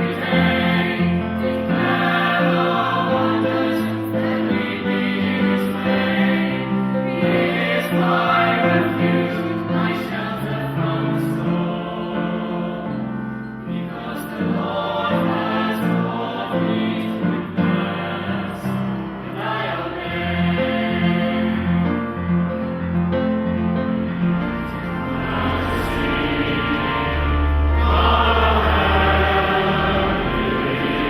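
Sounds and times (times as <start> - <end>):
choir singing church music: 0.0 - 31.0.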